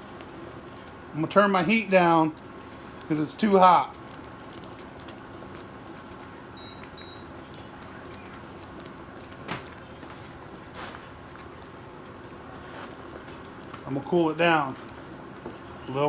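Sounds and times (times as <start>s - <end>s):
gravy bubbling in a skillet: 0.0s - 16.0s.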